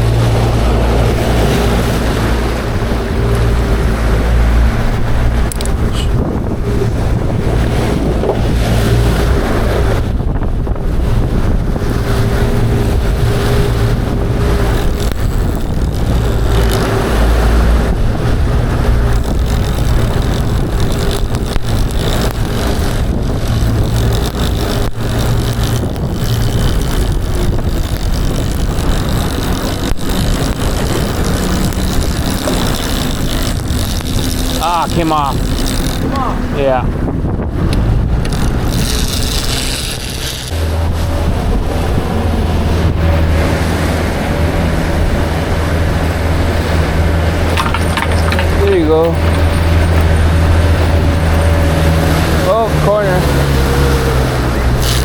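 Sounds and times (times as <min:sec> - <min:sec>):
boat engine running: 0:00.0 - 0:55.0
wind noise on microphone: 0:00.0 - 0:55.0.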